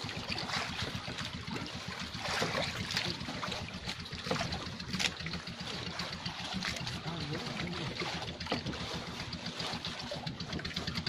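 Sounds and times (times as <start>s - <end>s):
low rumble: 0.0s - 11.0s
water splashing off fishing net: 0.0s - 11.0s.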